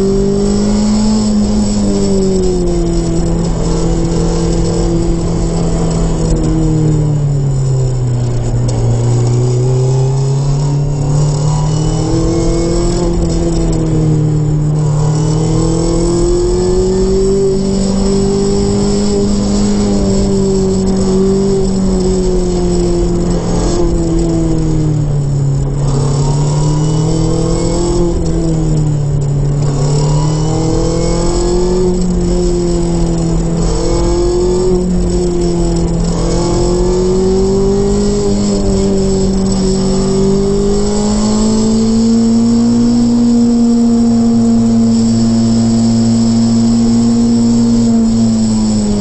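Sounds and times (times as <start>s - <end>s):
car engine revving: 0.0s - 49.0s
road noise: 0.0s - 49.0s.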